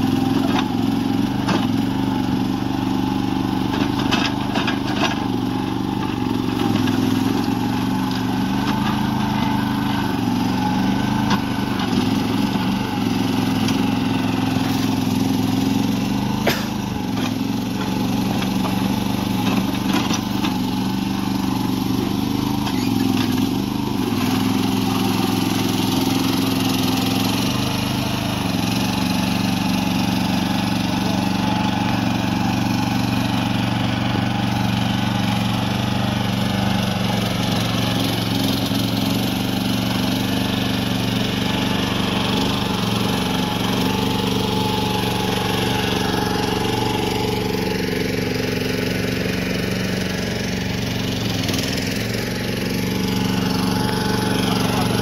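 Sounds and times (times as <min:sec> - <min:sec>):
mini excavator engine running: 0:00.0 - 0:55.0.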